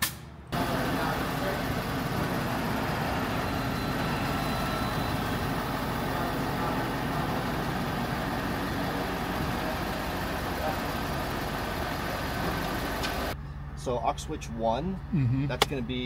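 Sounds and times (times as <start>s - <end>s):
diesel engine idling: 0.5s - 14.0s.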